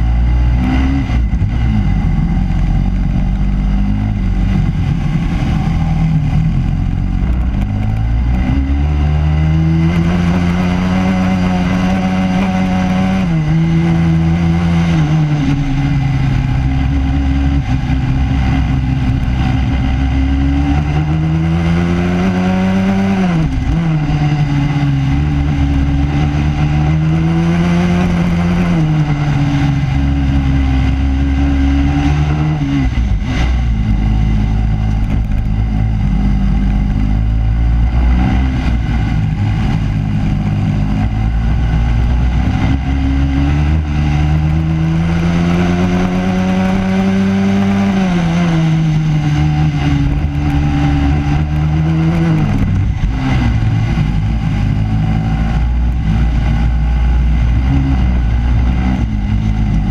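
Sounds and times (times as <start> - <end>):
kart engine accelerating: 0.0 - 59.9
wind and tyre rush: 0.0 - 59.9.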